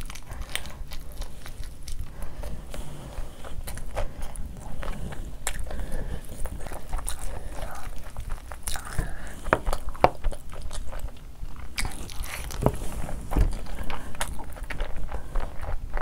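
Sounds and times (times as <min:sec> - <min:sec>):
close chewing and wet mouth sounds: 0:00.0 - 0:16.0.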